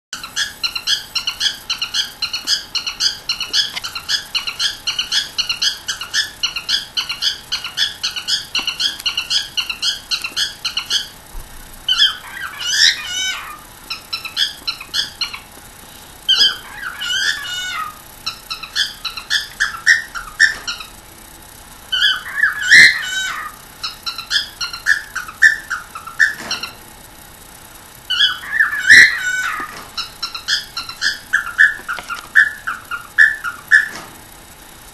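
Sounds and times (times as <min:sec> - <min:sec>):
cockatiel chirping: 0:00.2 - 0:11.2, 0:11.9 - 0:15.5, 0:16.3 - 0:20.9, 0:21.9 - 0:26.8, 0:28.1 - 0:34.0
cockatiel warbling and squawking: 0:00.2 - 0:11.2, 0:11.9 - 0:15.5, 0:16.3 - 0:21.0, 0:21.9 - 0:26.8, 0:28.1 - 0:34.0.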